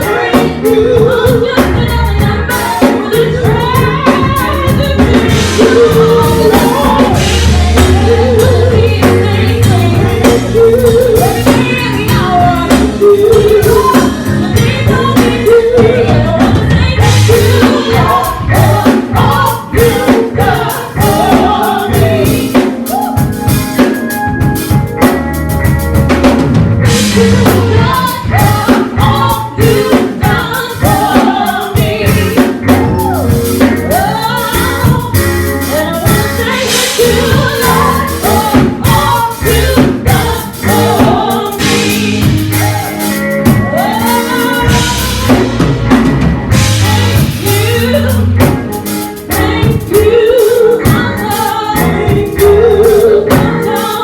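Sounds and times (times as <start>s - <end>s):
gospel singing: 0.0s - 25.2s, 26.8s - 54.0s
bass line: 0.0s - 54.0s
drum kit: 0.0s - 54.0s.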